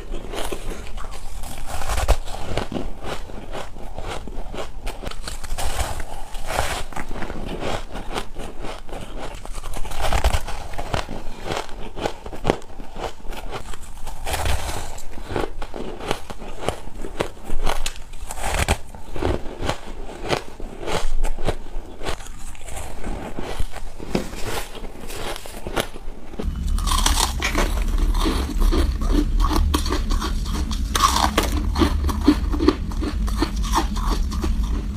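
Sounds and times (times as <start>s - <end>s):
person chewing crunchy ice: 0.0s - 34.9s.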